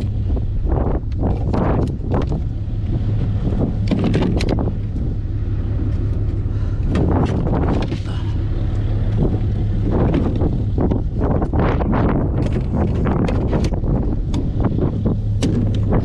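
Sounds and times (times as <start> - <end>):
vehicle engine running: 0.0 - 16.0
wind buffeting microphone: 0.0 - 16.0.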